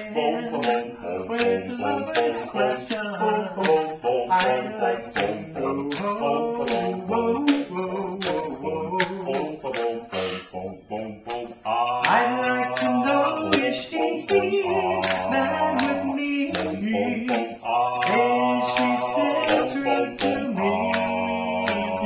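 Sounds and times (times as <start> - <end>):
men singing doo-wop harmony: 0.0 - 22.0
finger snaps: 0.6 - 10.6, 11.2 - 22.0.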